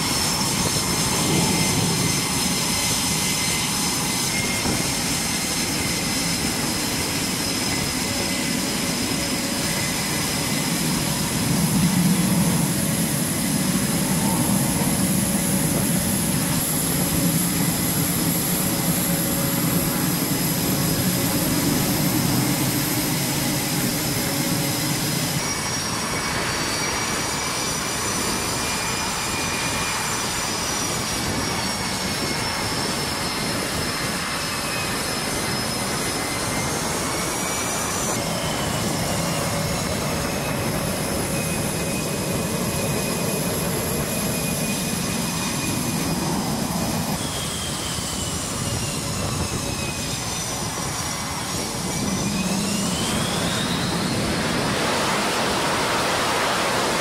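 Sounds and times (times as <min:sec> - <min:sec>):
high turbine whine: 0:00.0 - 0:57.0
jet engines roaring: 0:00.0 - 0:57.0.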